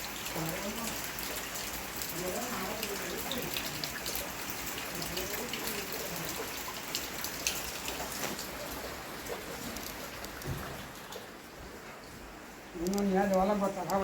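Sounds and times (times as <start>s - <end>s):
raindrops ticking close by: 0.0s - 14.0s
steady rain hiss: 0.0s - 14.0s.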